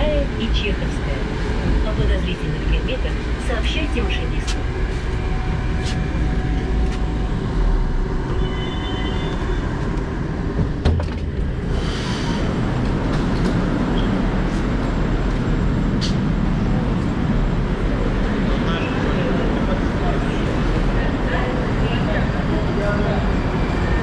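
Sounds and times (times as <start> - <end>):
train rumbling at platform: 0.0 - 24.0.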